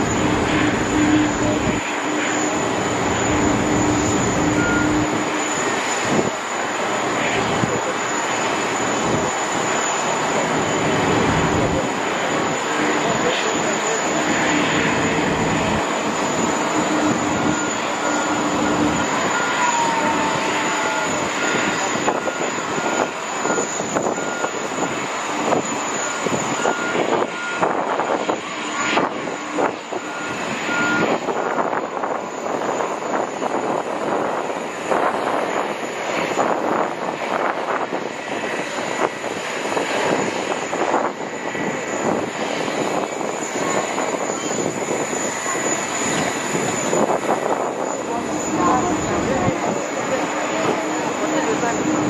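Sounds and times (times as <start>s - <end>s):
jet engines at takeoff: 0.0s - 52.0s.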